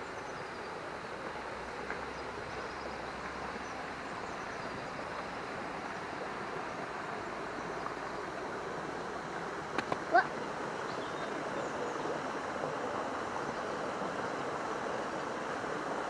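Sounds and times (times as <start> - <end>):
creek water running over stones: 0.0 - 16.0.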